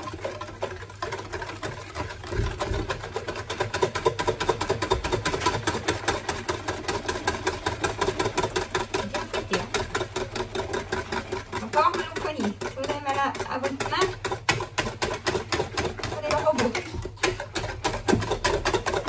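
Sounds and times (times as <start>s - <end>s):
hand whisk beating in bowl: 0.0s - 19.0s.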